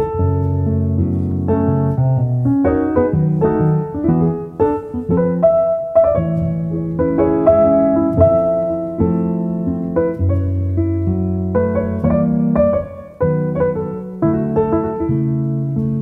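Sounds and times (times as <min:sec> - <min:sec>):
keyboard melody: 0:00.0 - 0:16.0.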